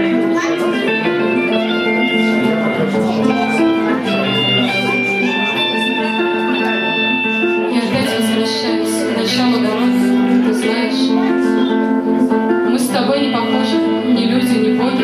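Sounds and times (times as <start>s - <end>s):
band music with guitar: 0.0s - 15.0s.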